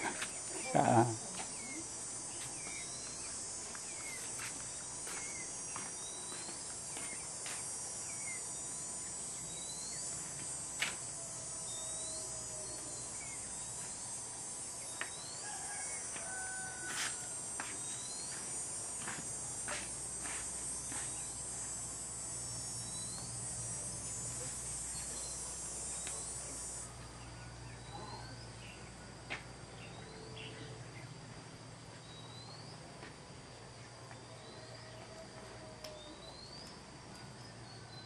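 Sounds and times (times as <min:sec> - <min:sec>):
high insect buzz: 0:00.0 - 0:38.0.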